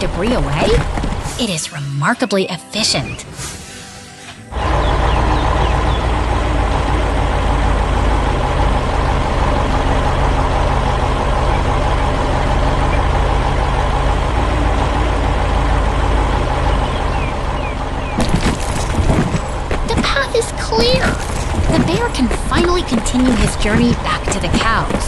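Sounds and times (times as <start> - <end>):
diesel engine droning: 3.2 - 25.0.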